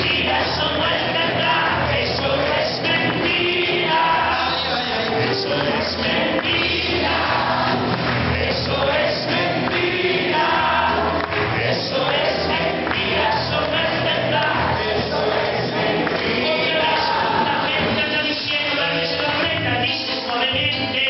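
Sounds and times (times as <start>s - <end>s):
amplified band playing: 0.0s - 21.0s
congregation singing: 0.0s - 21.0s.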